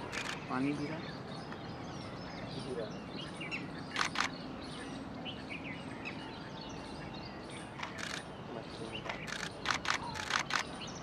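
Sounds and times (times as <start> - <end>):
outdoor noise: 0.0 - 11.0
small birds chirping: 0.0 - 11.0.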